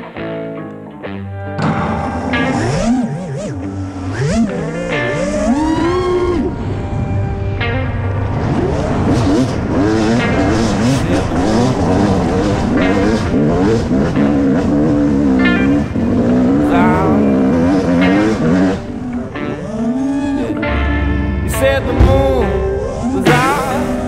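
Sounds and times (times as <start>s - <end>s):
dirt bike engine revving: 1.6s - 24.0s.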